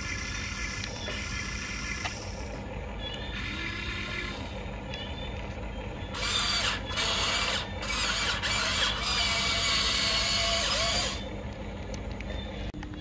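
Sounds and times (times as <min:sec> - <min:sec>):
toy excavator motors whirring: 0:00.0 - 0:13.0.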